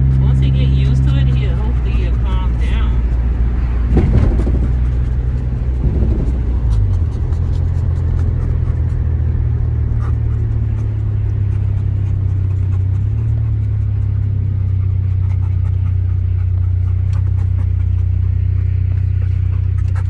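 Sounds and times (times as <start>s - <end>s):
loud low rumble: 0.0s - 20.0s.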